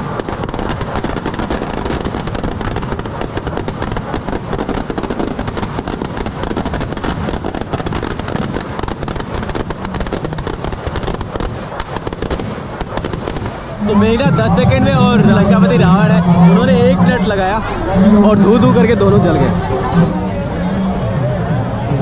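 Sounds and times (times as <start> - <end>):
firecrackers crackling: 0.0 - 20.2.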